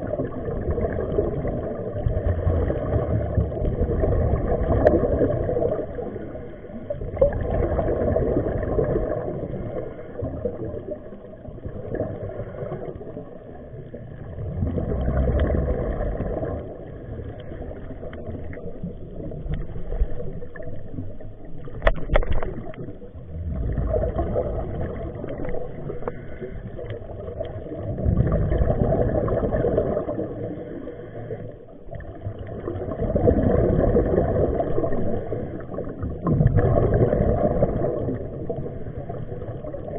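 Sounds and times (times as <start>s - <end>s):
underwater bubbles from diver breathing: 0.0s - 39.9s.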